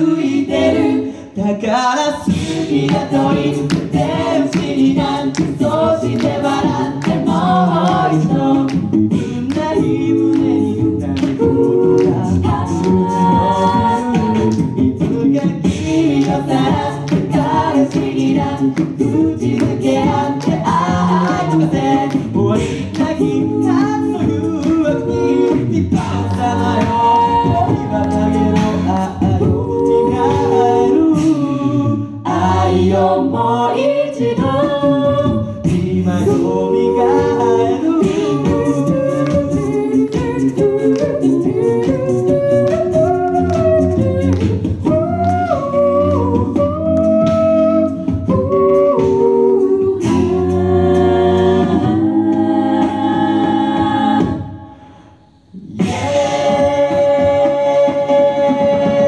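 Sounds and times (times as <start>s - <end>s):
a cappella group singing: 0.0s - 59.0s
beatboxed rhythm: 0.0s - 59.0s.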